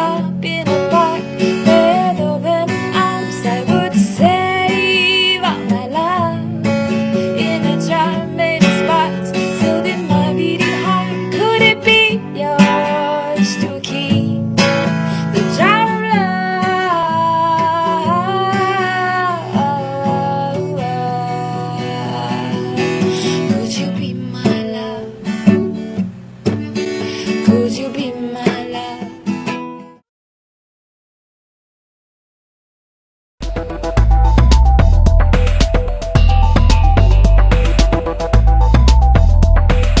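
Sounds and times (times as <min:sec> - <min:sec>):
song with strummed acoustic guitar: 0:00.0 - 0:30.0, 0:33.4 - 0:40.0.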